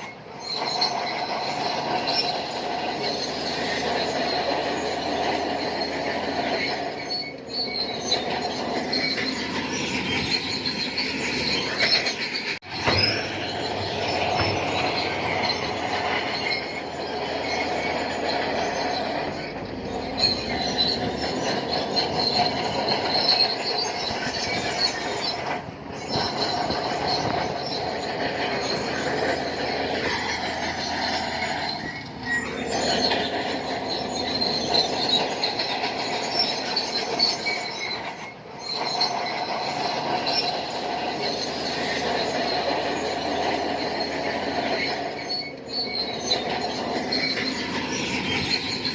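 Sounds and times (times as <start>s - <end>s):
bulldozer engine: 0.0s - 48.9s
steel tracks squealing and clanking: 0.0s - 48.9s.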